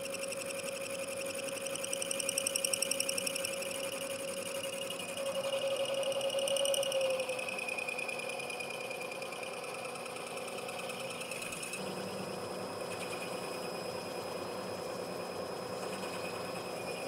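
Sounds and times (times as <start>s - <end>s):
lower machine tone: 0.0s - 17.0s
milling machine hum and whine: 0.0s - 17.0s.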